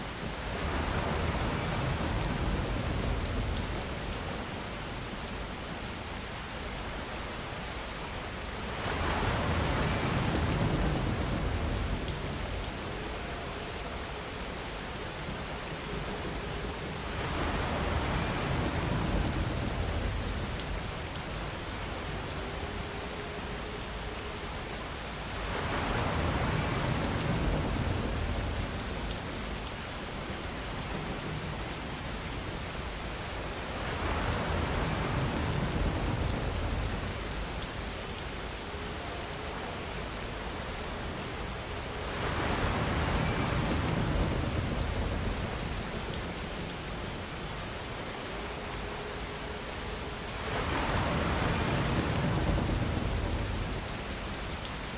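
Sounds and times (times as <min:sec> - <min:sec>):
steady rain: 0:00.0 - 0:54.9
wind: 0:00.0 - 0:54.9.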